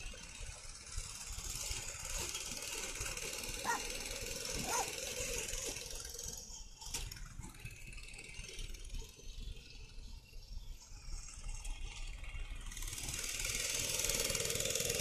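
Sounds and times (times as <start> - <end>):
distant mini bike engine running: 0.0 - 15.0.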